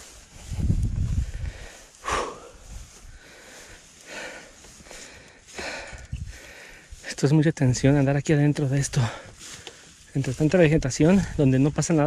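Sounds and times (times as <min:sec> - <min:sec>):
brush and branches rustling: 0:00.0 - 0:12.0.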